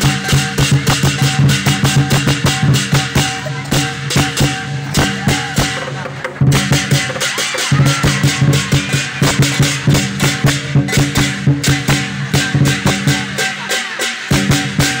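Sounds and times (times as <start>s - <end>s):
drum beating fast: 0.0s - 15.0s
hand cymbals clashing: 0.0s - 15.0s.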